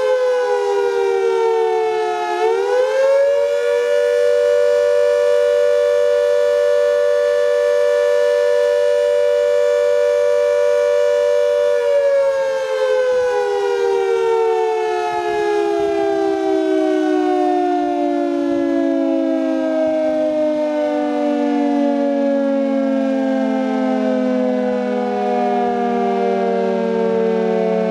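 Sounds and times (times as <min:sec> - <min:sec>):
air-raid siren: 0:00.0 - 0:27.9.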